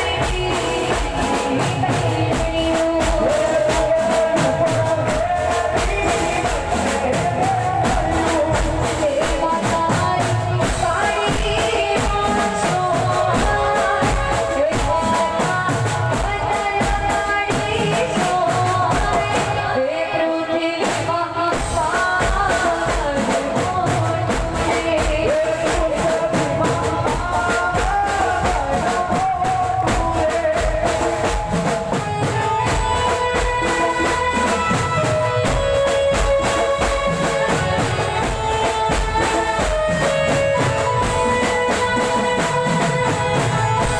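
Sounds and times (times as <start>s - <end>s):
drum and tambourine beat: 0.0s - 19.5s, 20.8s - 43.9s
folk melody over sound system: 0.0s - 43.9s
person singing: 0.0s - 43.9s.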